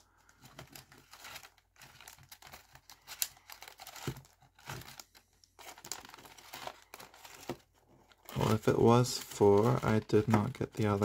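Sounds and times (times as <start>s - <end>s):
foil wrapper crinkling: 0.8s - 11.0s.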